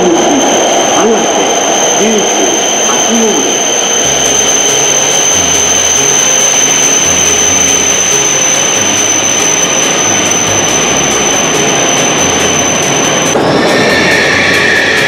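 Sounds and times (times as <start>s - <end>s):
high whine: 0.0s - 15.0s
high-speed train running noise: 0.0s - 15.0s
low hum shifting pitch: 0.0s - 15.0s.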